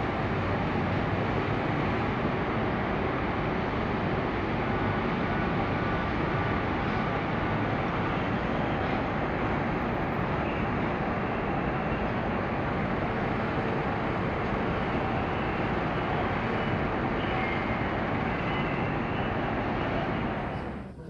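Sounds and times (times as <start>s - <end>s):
ferry machinery drone: 0.0s - 21.0s.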